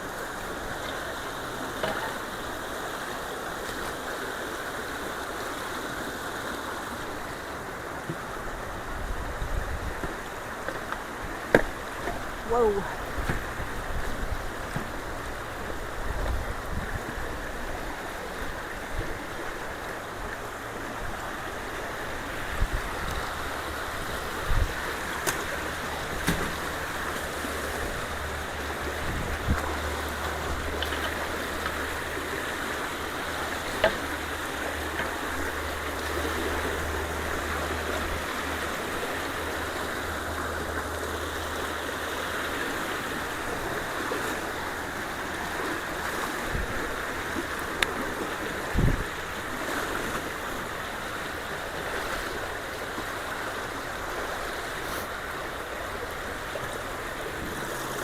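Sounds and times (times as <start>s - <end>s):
water rushing through culvert: 0.0s - 58.0s.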